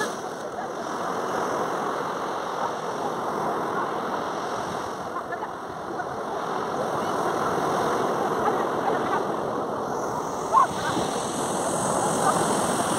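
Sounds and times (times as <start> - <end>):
surf washing up a beach: 0.0 - 12.9.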